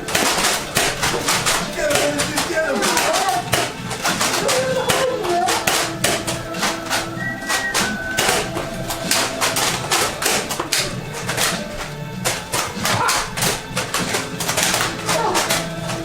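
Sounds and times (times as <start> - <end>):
music with percussive beat: 0.0 - 16.0.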